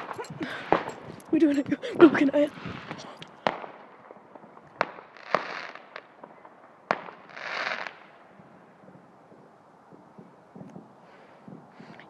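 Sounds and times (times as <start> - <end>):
fireworks bangs: 0.0 - 10.6
fireworks crackling: 0.0 - 10.6.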